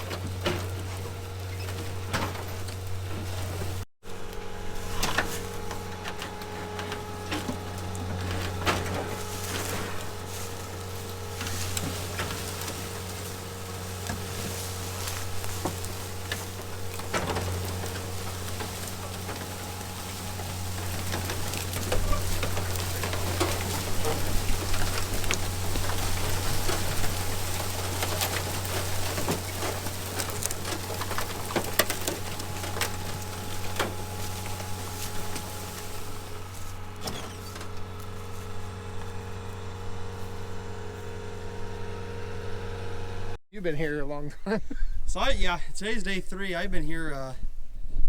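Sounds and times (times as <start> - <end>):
engine idling: 0.0 - 43.4.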